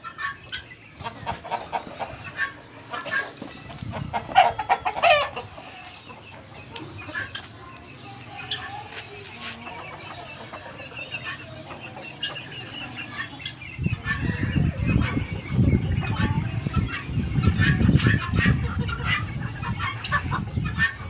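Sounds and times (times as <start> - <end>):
guinea fowl calling: 0.0 - 21.0.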